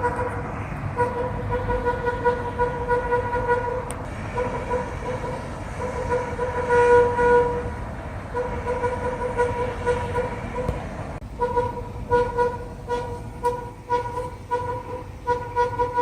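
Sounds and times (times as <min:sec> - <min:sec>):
horn long blasts: 0:00.0 - 0:16.0.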